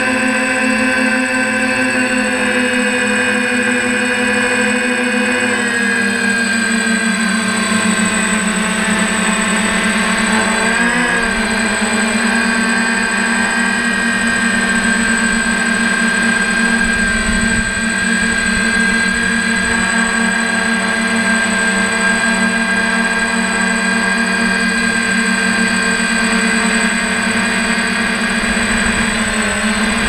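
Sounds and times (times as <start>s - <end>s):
drone propellers whirring: 0.0s - 30.0s.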